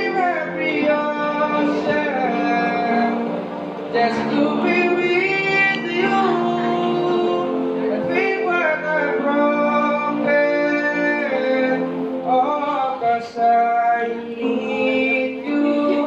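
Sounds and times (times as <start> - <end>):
man singing a slow ballad: 0.0 - 3.2, 3.9 - 16.0.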